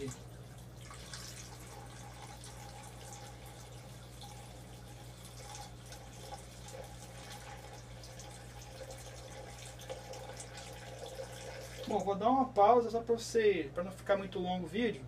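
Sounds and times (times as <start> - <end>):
water pouring into aquarium: 0.0 - 12.1
steady low hum: 0.0 - 15.0.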